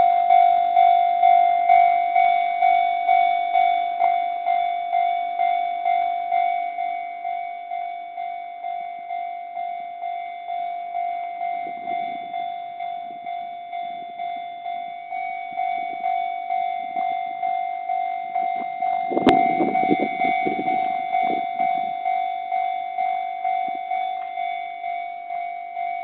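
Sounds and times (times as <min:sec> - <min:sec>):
level-crossing warning bell ringing: 0:00.0 - 0:26.0.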